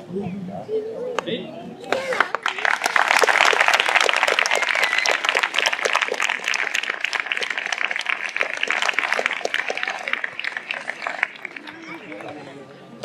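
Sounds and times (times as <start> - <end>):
audience applauding: 1.9 - 12.4.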